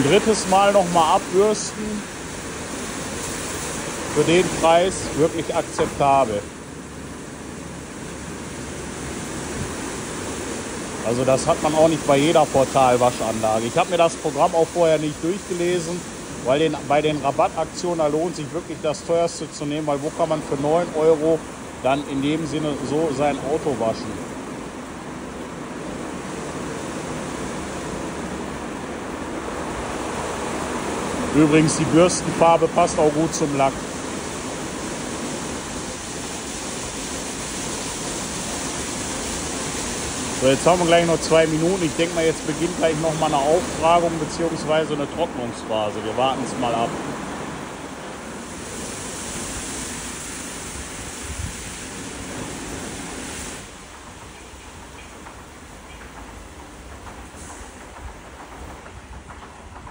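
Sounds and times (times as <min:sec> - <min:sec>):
car wash brushes and water spray: 0:00.0 - 0:59.9.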